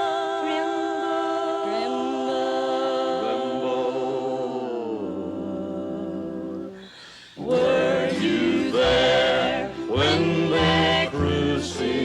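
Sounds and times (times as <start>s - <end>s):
group singing hymn unaccompanied: 0.0s - 12.0s.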